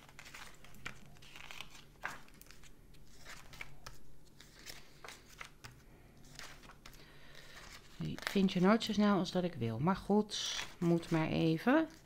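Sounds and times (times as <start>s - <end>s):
paper pages rustling and flicking: 0.0s - 9.0s, 10.4s - 12.0s.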